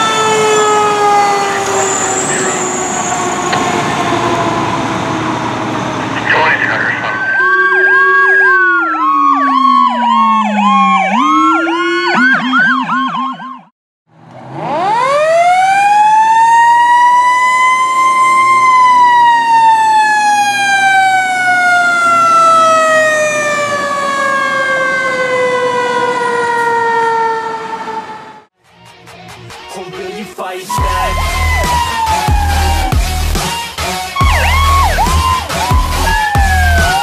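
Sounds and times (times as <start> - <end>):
electronic emergency sirens: 0.0 - 13.7, 14.4 - 28.5, 30.7 - 37.0.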